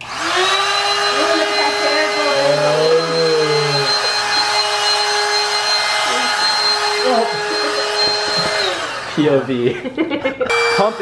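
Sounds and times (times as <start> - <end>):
electric air pump whining: 0.0 - 9.8, 10.5 - 11.0.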